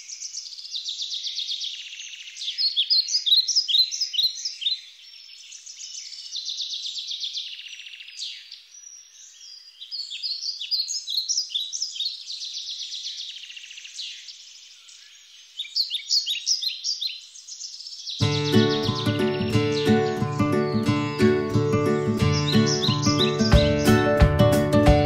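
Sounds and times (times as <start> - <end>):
birds chirping and singing: 0.0 - 25.0.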